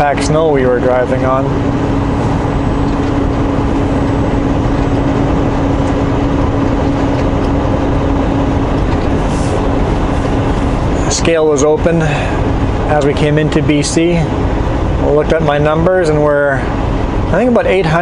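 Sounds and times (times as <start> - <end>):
constant low hum: 0.0 - 18.0
truck diesel engine: 0.0 - 18.0.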